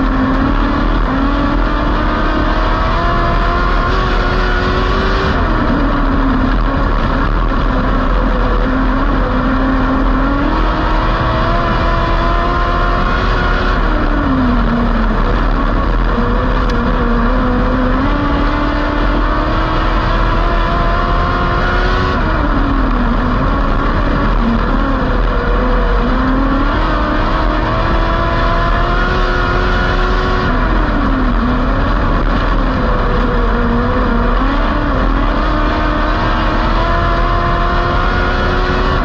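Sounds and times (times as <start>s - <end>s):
race car engine: 0.0s - 39.0s.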